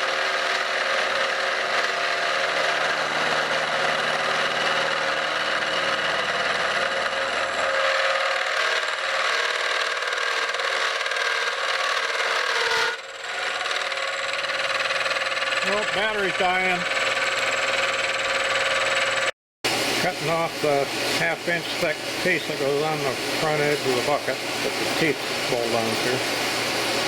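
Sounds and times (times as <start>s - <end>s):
machine tool cutting steel: 0.0s - 27.0s.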